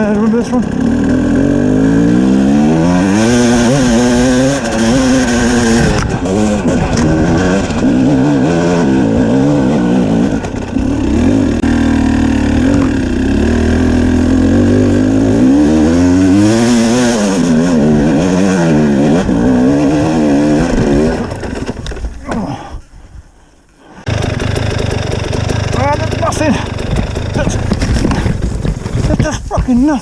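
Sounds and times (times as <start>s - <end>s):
two-stroke motorcycle engine revving: 0.0s - 21.8s, 24.0s - 29.1s.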